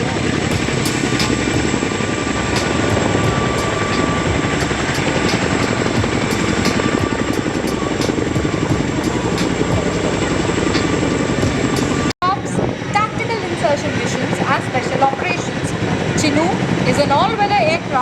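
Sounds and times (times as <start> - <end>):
helicopter engine noise: 0.0 - 18.0
helicopter rotor beat: 0.0 - 18.0.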